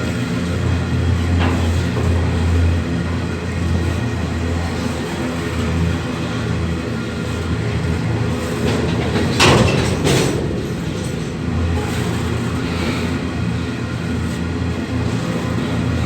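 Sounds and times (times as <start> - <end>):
electric train rumbling: 0.0 - 16.0
loud train clanks: 0.0 - 16.0.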